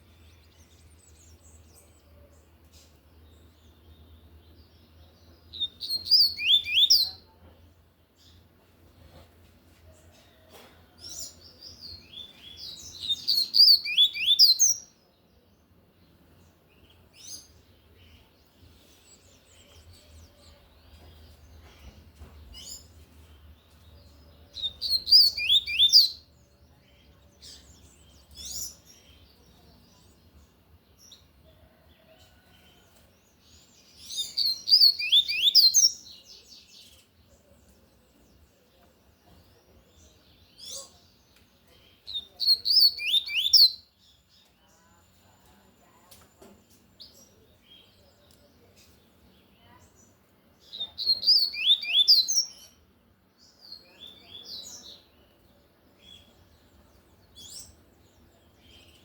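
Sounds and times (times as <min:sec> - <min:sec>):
soft bird chirps: 0:00.0 - 0:59.0.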